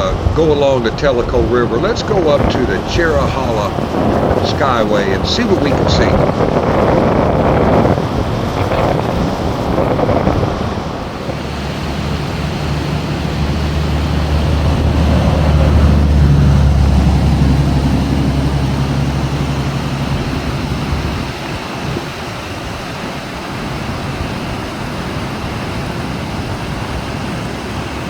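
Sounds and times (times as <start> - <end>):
car engine drone: 0.0 - 28.0
road noise: 0.0 - 28.0
wind buffeting: 0.0 - 28.0.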